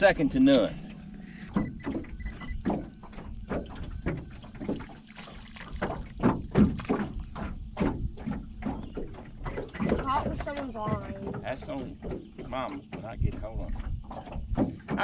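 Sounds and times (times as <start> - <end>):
knocks and splashes around boat: 0.0 - 15.0.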